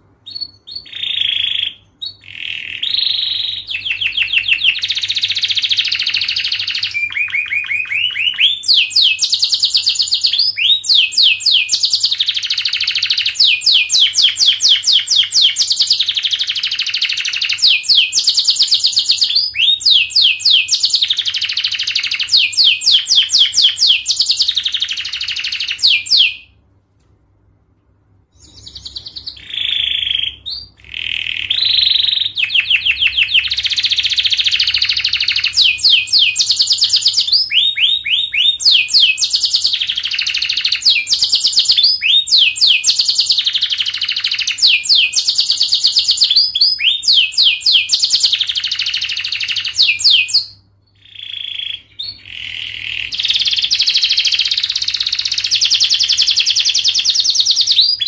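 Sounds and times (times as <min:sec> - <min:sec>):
canary singing trills: 0:00.2 - 0:26.6, 0:28.3 - 0:58.0.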